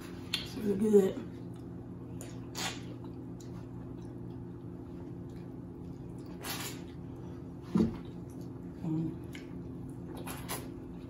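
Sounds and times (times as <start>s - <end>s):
steady low hum: 0.0s - 11.0s
person chewing wetly: 1.4s - 11.0s.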